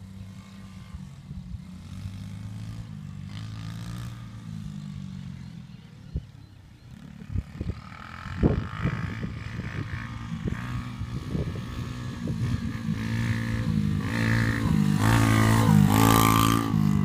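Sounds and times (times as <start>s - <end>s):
quad bike engine revving: 0.0s - 5.9s, 6.9s - 17.0s.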